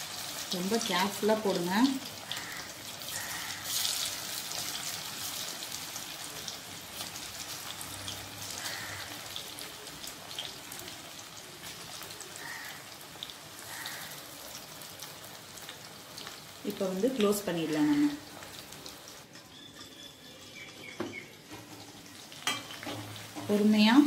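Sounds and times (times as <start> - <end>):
squid deep-frying in hot oil: 0.0 - 24.0.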